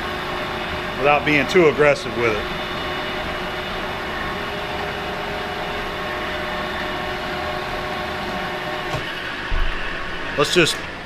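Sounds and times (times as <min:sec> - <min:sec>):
lathe humming: 0:00.0 - 0:11.0.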